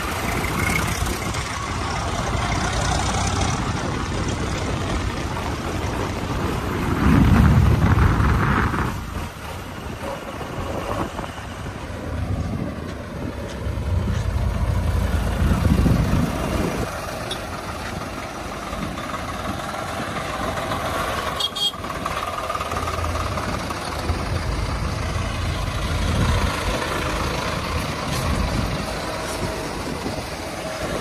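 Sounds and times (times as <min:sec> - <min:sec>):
diesel engine working under load: 0:00.0 - 0:31.0.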